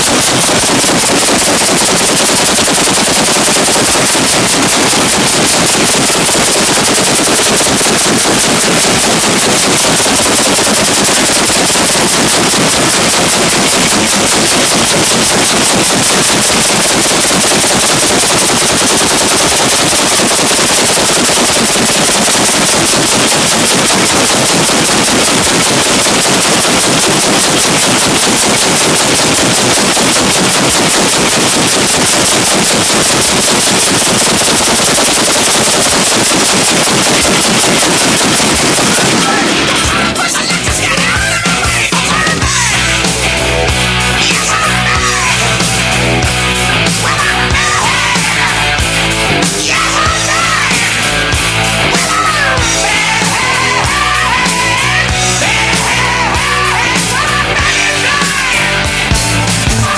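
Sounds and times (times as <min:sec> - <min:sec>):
autocannon rapid automatic fire: 0:00.0 - 0:59.9.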